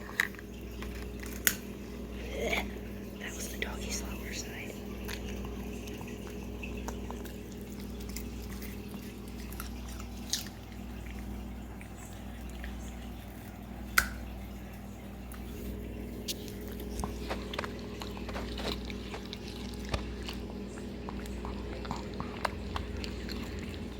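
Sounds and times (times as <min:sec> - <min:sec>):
puppy crunching carrot: 0:00.0 - 0:03.0, 0:04.1 - 0:23.9
steady low hum: 0:00.0 - 0:23.9.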